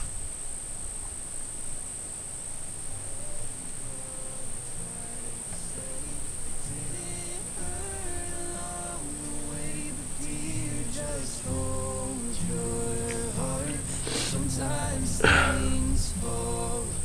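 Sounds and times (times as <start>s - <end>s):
soft sustained film score: 0.7s - 17.0s
high-pitched hum: 3.0s - 17.0s.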